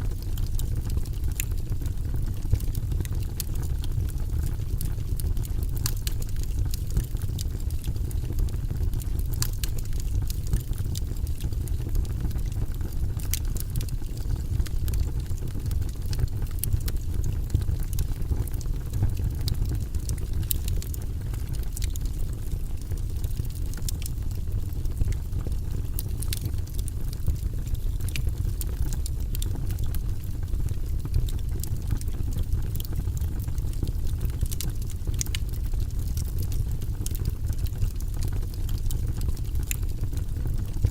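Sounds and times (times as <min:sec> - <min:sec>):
fire crackles and pops: 0:00.0 - 0:40.9
fire rumbling: 0:00.0 - 0:40.9.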